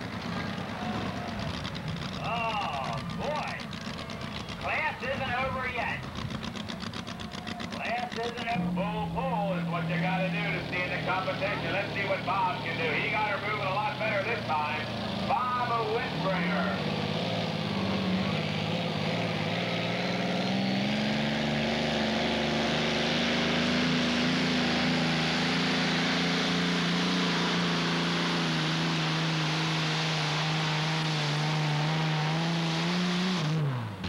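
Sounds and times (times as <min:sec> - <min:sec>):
tractor engine running wide open: 0:00.0 - 0:34.0.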